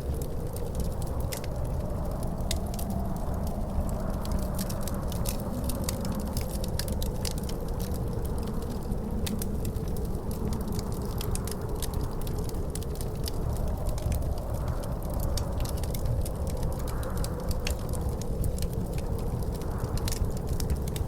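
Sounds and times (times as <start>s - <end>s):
low wind rumble with howl: 0.0s - 21.0s
wood fire crackling and popping: 0.0s - 21.0s.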